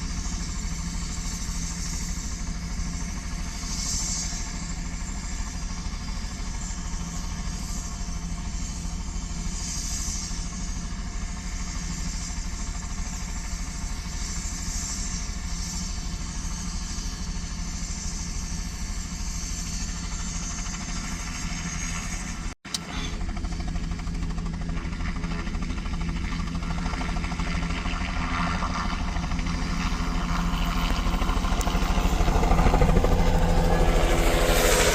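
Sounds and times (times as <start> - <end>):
helicopter rotor beating: 0.0 - 34.9.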